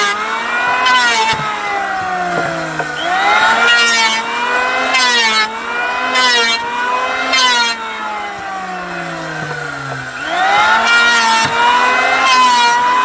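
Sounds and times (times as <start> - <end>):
motor with rising and dipping pitch: 0.0 - 13.0.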